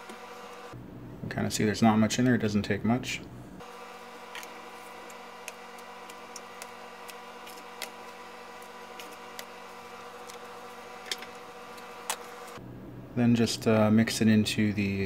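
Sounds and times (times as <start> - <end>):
machine hum: 0.0 - 13.7.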